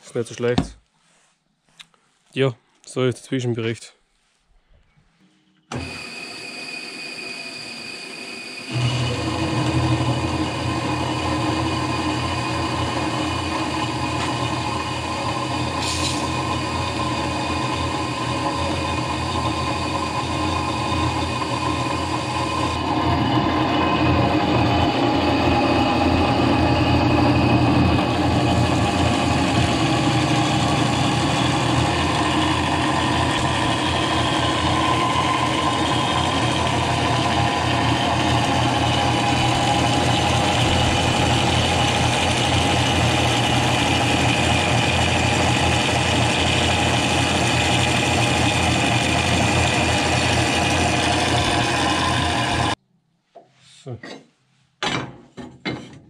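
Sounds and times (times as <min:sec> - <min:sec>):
band saw cutting metal: 0:05.7 - 0:52.8.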